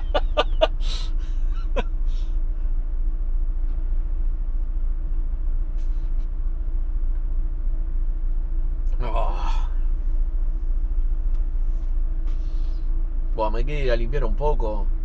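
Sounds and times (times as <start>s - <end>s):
faint constant hum: 0.0s - 15.0s
van engine idling: 0.0s - 15.0s.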